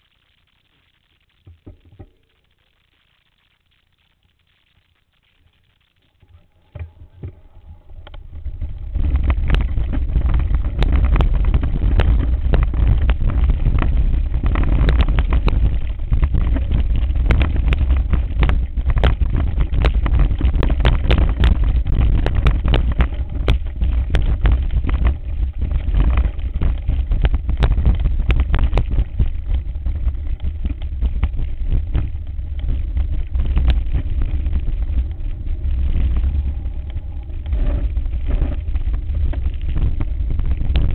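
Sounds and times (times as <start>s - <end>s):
wind rumble on microphone: 6.6s - 40.9s.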